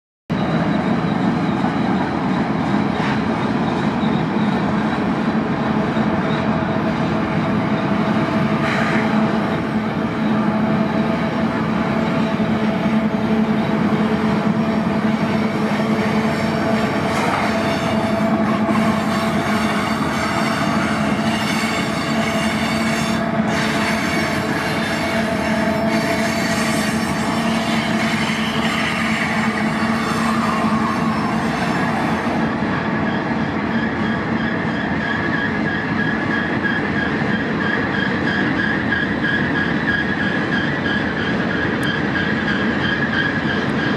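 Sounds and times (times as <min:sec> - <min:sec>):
diesel locomotives droning: 0:00.3 - 0:43.9
steel wheels rolling on rail: 0:00.3 - 0:43.9.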